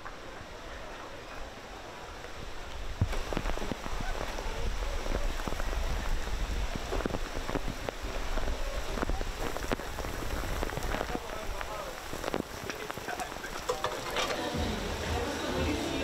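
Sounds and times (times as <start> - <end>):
wind rumble on microphone: 0.0 - 14.2
heavy rain on pavement: 0.0 - 16.0.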